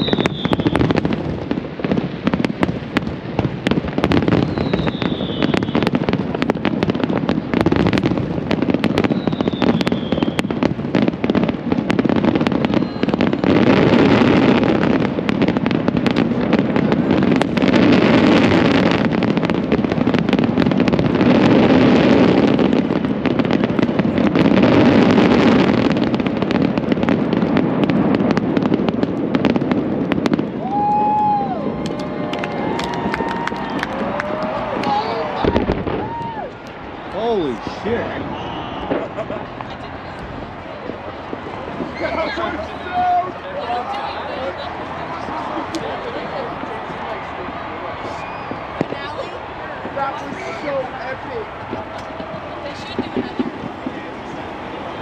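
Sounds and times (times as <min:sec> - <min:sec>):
fireworks crackling and popping: 0:00.0 - 0:55.0
heavy firework bursts: 0:00.0 - 0:55.0.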